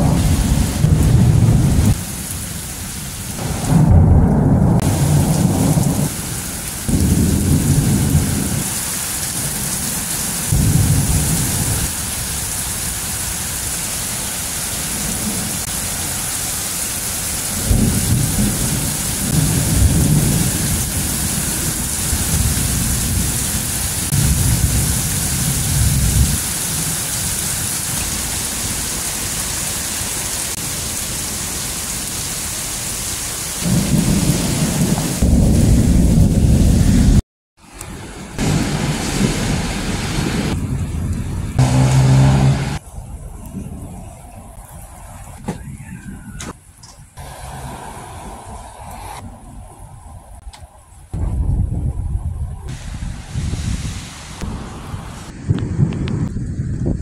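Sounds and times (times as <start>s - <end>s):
thunder rumbling: 0.0s - 13.8s, 14.4s - 29.0s, 33.6s - 37.2s, 37.9s - 57.0s
rain hissing: 0.0s - 57.0s.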